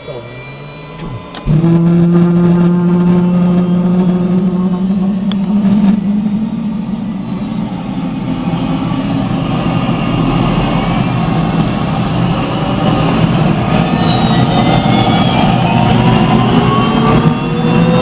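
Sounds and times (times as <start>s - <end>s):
rising high whine: 0.0s - 18.0s
helicopter turbine and rotor drone: 2.2s - 18.0s.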